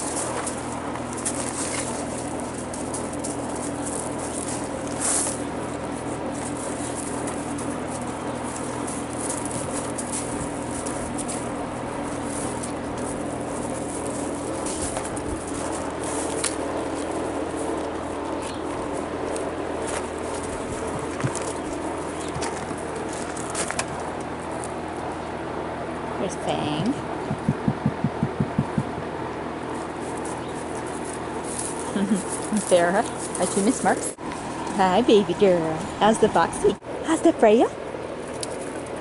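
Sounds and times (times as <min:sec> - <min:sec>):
puppies scuffling on gravel: 0:00.0 - 0:25.2, 0:29.5 - 0:39.0
steady low hum: 0:00.0 - 0:39.0.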